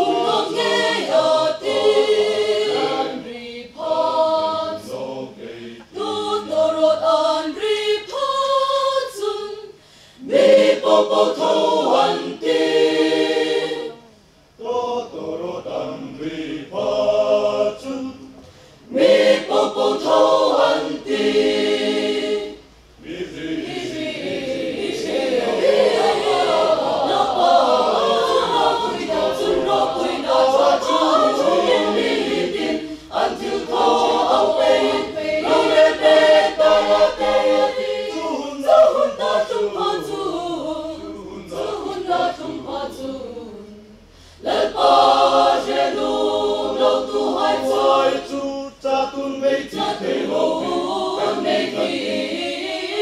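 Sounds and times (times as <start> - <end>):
mixed choir singing: 0.0 - 53.0.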